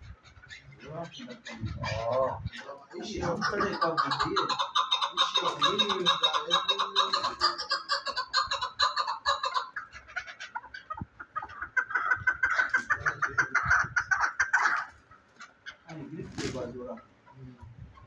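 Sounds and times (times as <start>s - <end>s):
partridge calling chuck notes: 0.0s - 16.1s.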